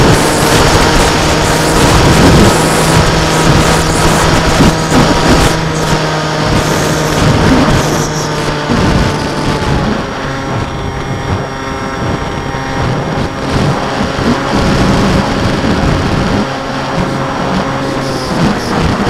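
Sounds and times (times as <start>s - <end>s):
model aircraft motor whine: 0.0s - 19.0s
wind buffeting microphone: 0.0s - 19.0s.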